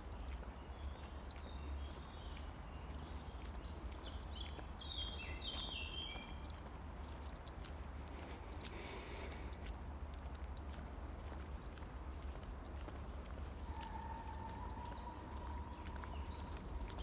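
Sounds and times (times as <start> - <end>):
footsteps on dirt path: 0.0 - 17.0
songbird singing: 0.0 - 17.0.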